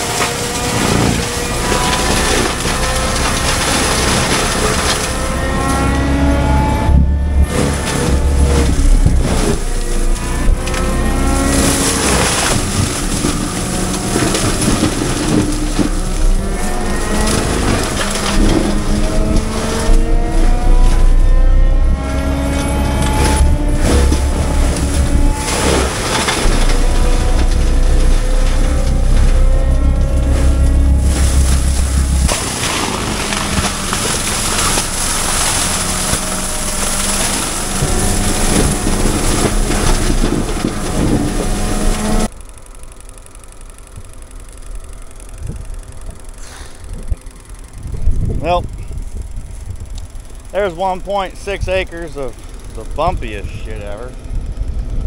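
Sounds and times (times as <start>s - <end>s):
track loader engine running hard: 0.0s - 55.0s.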